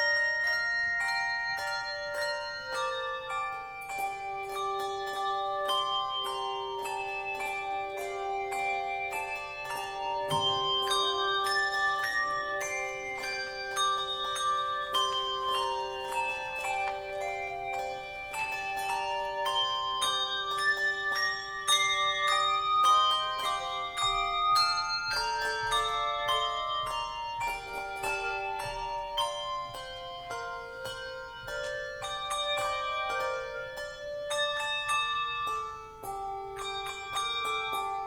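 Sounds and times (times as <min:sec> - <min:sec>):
melody of struck ringing notes: 0:00.0 - 0:38.0.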